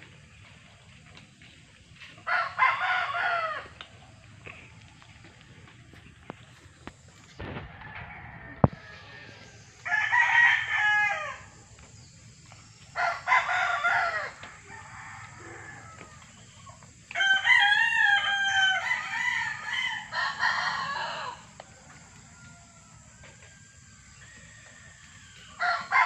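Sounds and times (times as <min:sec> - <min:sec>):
roosters crowing: 0:02.1 - 0:05.9, 0:07.3 - 0:12.1, 0:12.7 - 0:26.0.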